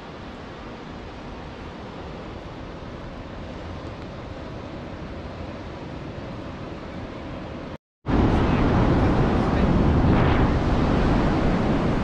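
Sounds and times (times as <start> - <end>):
ocean surf rushing: 0.0 - 12.0
wind: 0.0 - 12.0.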